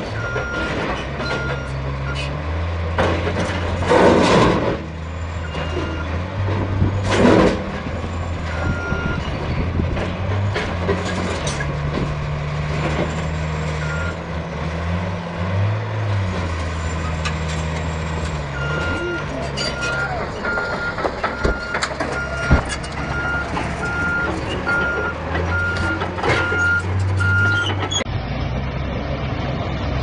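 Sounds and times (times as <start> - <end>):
truck diesel engine droning: 0.0 - 30.0.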